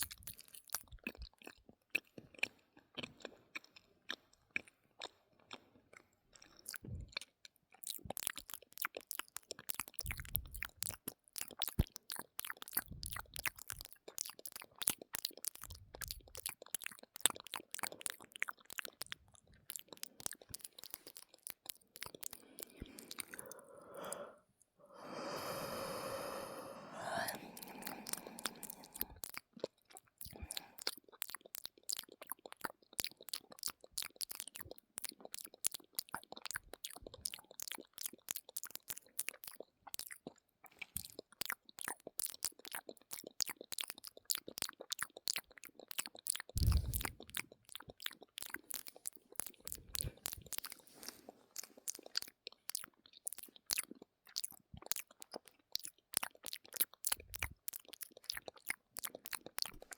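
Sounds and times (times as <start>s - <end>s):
mouth clicks: 9.2s - 40.2s, 41.8s - 59.9s.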